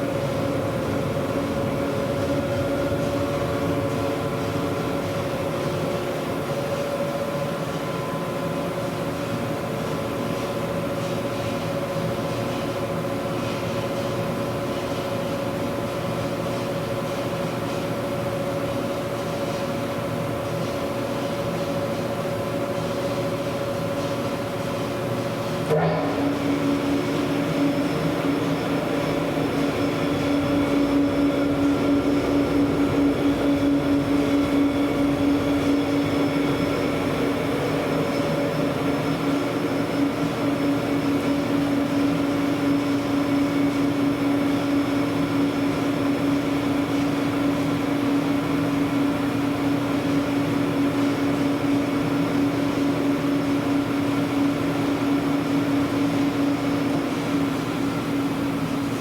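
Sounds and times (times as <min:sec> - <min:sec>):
mixer running hum: 0:00.0 - 0:59.0.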